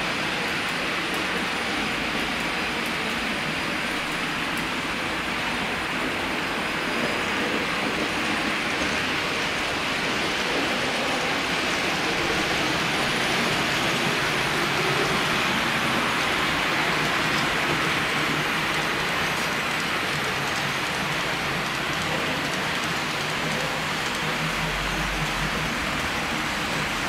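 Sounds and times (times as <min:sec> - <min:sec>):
model train wheels rolling: 0:00.0 - 0:27.0.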